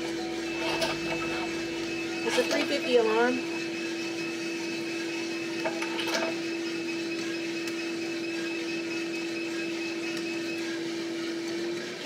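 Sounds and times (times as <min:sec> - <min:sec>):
coffee roaster humming: 0:00.0 - 0:12.0.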